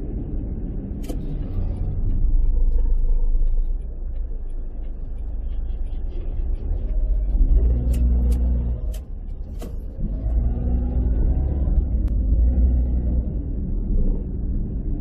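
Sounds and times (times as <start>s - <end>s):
car engine accelerating: 0.0s - 15.0s
road rumble: 0.0s - 15.0s.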